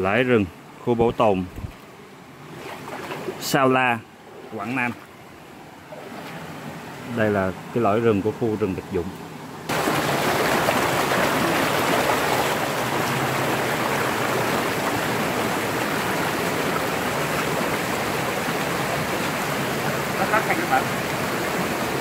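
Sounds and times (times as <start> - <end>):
stream rushing over boulders: 1.6 - 22.0.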